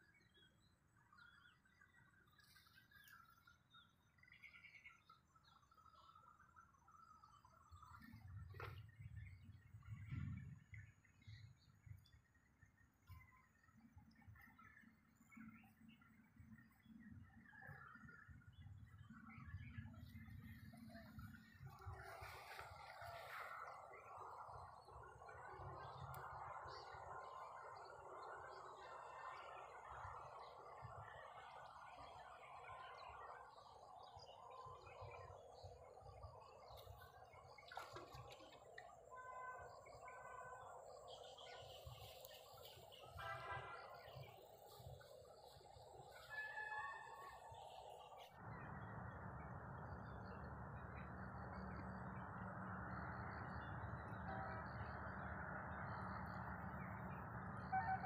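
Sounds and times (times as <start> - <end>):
steady background noise: 2.0 - 57.8.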